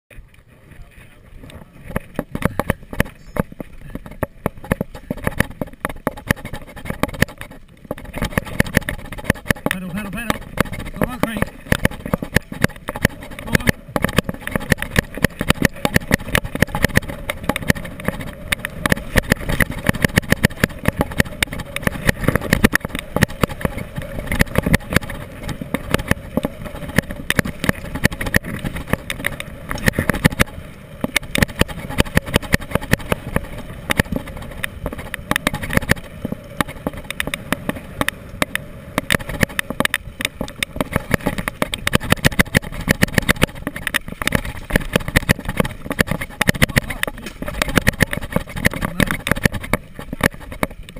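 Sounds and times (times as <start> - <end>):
tyres rolling over rough ground: 0.1 - 50.9
wind: 0.1 - 50.9
bike rattling and clattering: 1.1 - 50.9.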